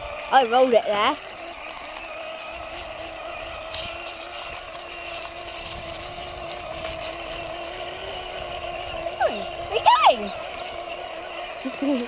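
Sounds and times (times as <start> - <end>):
toy car motor hum: 0.0 - 12.0.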